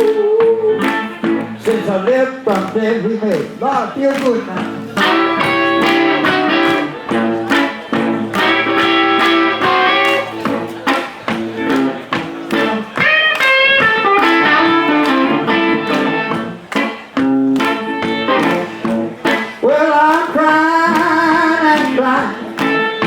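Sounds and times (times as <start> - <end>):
blues guitar plucked notes: 0.0 - 23.0
live band beat: 0.0 - 23.0.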